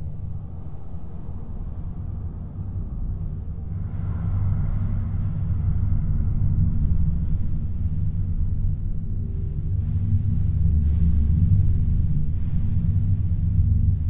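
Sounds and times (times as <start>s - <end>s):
low rumbling electronic drone: 0.0s - 14.0s.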